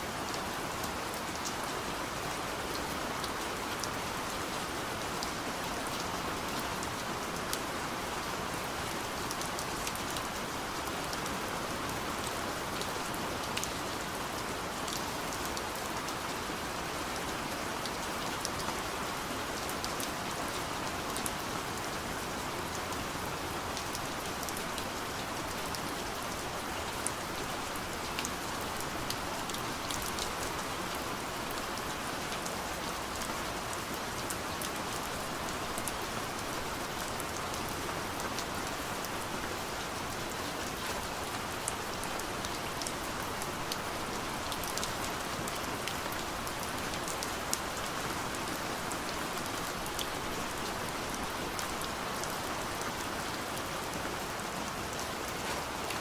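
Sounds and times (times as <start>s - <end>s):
rain on a window pane: 0.0s - 56.0s.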